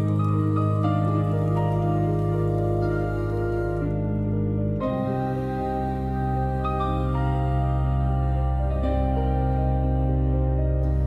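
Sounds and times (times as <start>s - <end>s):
ambient music with held notes: 0.0s - 11.0s
low drone: 0.0s - 11.0s.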